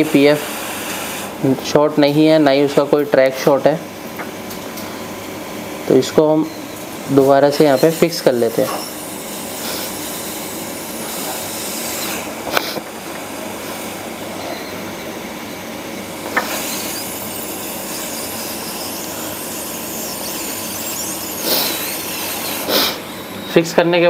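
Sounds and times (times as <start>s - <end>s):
hot air blower hissing: 0.0s - 4.2s, 7.0s - 24.0s.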